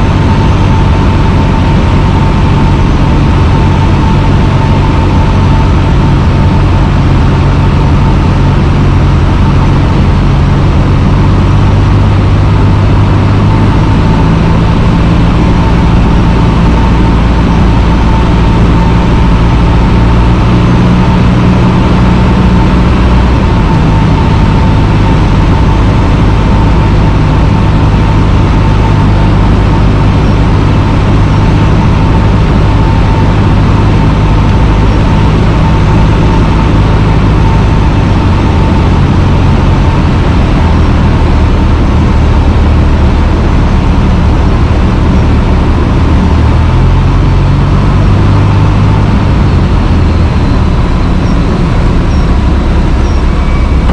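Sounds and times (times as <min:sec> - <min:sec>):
aircraft engine and propeller droning: 0:00.0 - 0:53.9
thin steady whine: 0:00.0 - 0:53.9.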